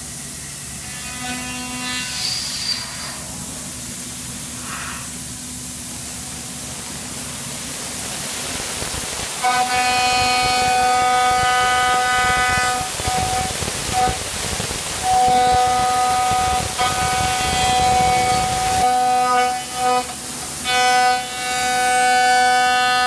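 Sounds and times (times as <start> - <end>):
high-pitched cutter whine: 0.0 - 23.0
milling machine cutting hiss: 0.0 - 23.0.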